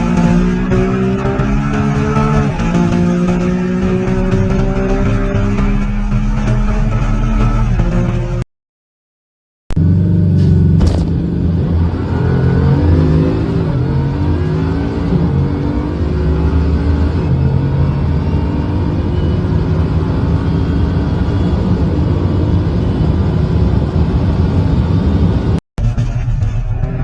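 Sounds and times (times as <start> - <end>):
car engine accelerating hard: 0.0 - 8.4, 9.7 - 27.0.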